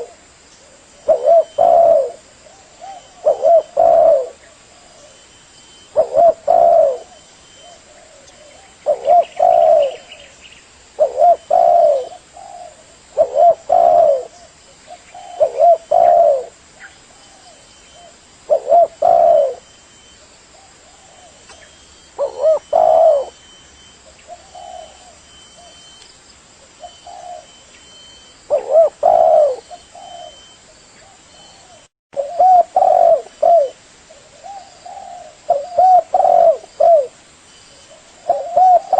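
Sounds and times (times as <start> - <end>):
dove cooing: 0.0 - 10.3, 10.9 - 25.8, 26.8 - 37.2, 37.9 - 38.9.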